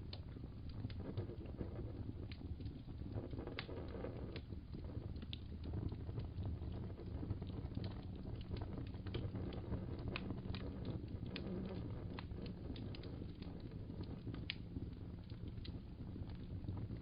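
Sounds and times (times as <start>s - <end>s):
low rumble of burning: 0.0s - 17.0s
wood fire crackling and popping: 0.0s - 17.0s.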